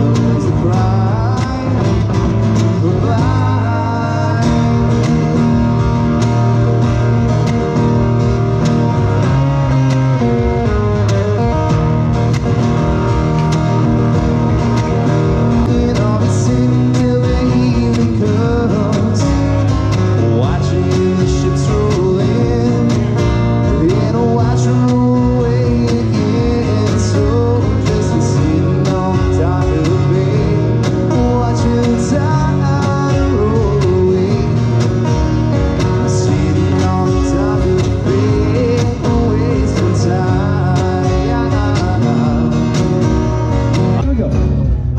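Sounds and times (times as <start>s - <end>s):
acoustic guitars strumming: 0.0s - 44.9s.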